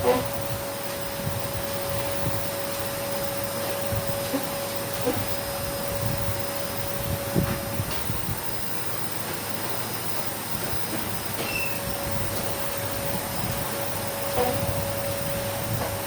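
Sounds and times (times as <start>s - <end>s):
vacuum cleaner whining: 0.0s - 16.0s.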